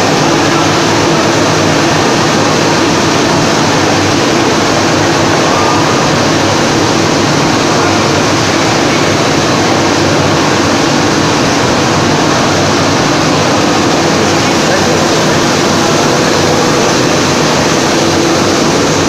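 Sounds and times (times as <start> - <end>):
loud steady machine din: 0.0 - 19.0.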